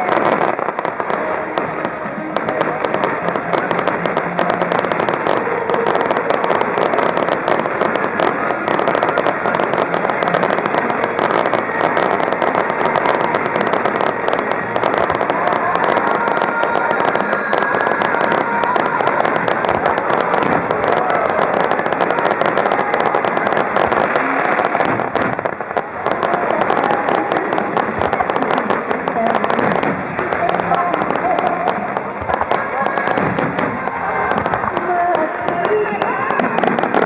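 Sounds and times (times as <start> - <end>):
fireworks crackling: 0.0 - 37.0.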